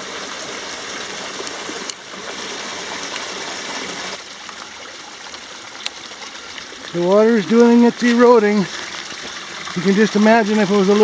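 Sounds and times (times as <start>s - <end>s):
water rushing down rock channel: 0.0s - 11.0s.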